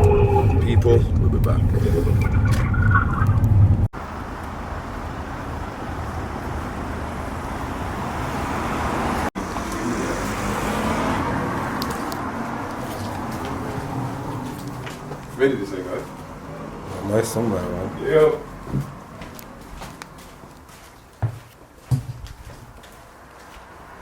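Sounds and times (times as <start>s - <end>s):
cars passing: 0.0s - 20.9s, 22.7s - 24.0s.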